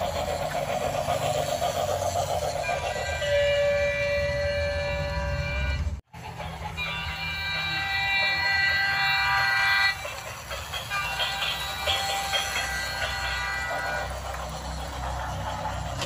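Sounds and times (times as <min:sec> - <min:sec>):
toy train motors humming: 0:00.0 - 0:16.0.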